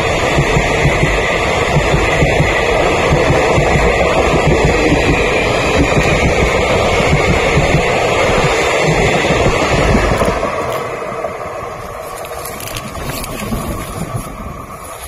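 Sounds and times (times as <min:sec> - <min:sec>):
train wheels running on track: 0:00.0 - 0:15.0.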